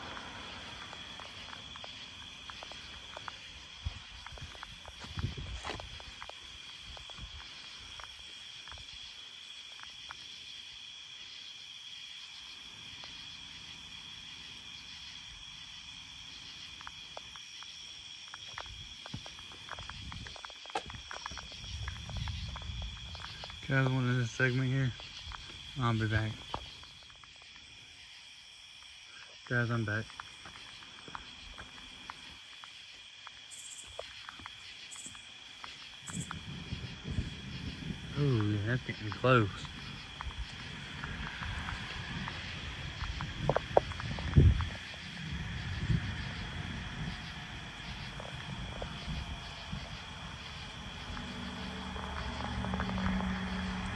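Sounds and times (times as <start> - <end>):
crickets and night insects trilling: 0.0 - 53.9.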